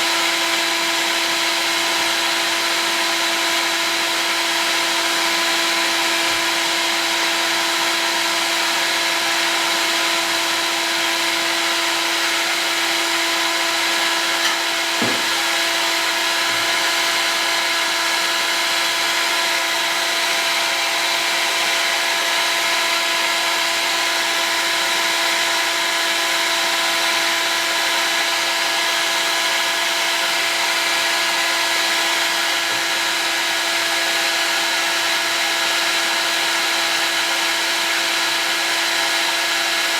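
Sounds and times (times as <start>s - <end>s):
heat gun running: 0.0s - 39.9s.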